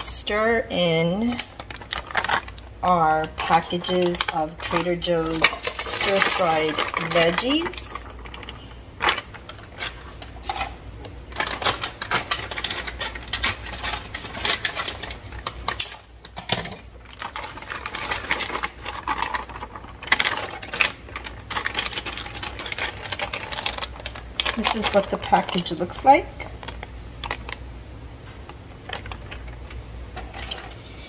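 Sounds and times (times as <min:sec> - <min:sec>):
vegetables crackling in hot oil: 0:01.2 - 0:31.0.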